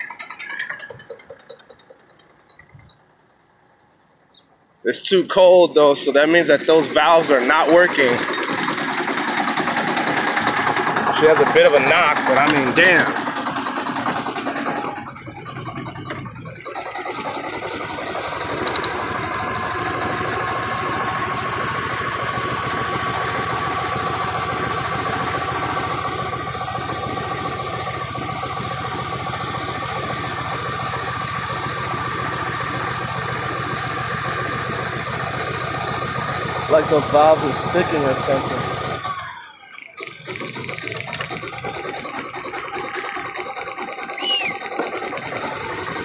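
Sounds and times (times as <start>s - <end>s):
diesel engine idling rough: 0.0s - 46.0s.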